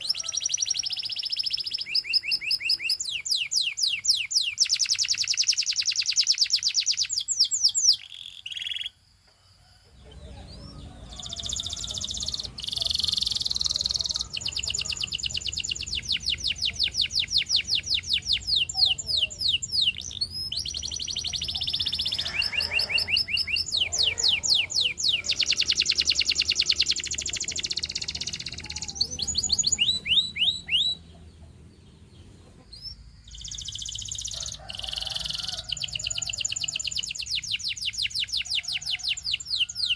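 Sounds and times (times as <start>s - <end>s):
canary singing trills: 0.0s - 9.1s, 9.9s - 39.9s.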